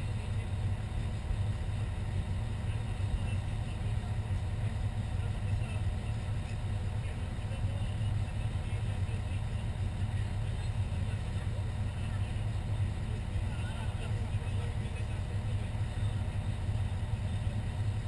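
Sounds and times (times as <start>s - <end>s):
fire engine engine droning: 0.0s - 18.0s.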